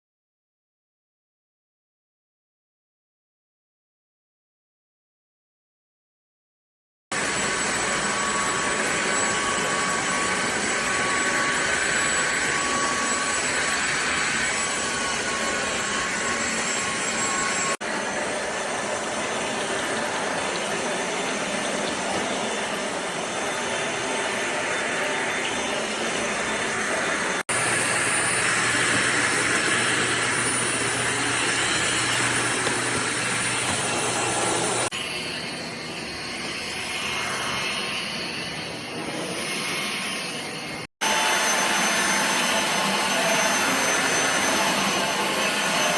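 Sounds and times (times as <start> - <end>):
vacuum cleaner running: 7.1 - 45.9.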